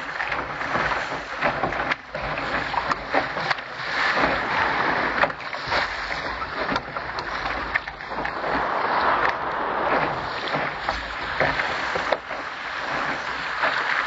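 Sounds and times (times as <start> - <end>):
water rushing along a hull: 0.0 - 14.0.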